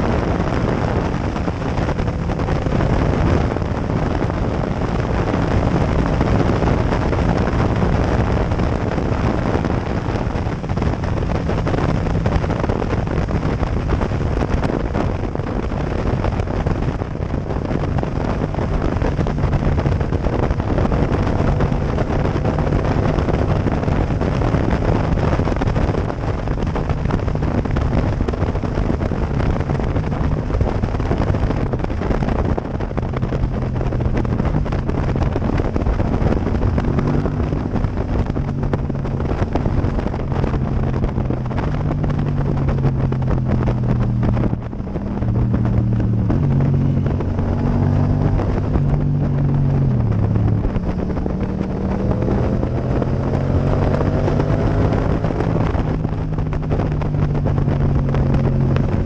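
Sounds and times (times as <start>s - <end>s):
motorcycle engine running: 0.0s - 59.0s
wind buffeting on microphone: 0.0s - 59.0s.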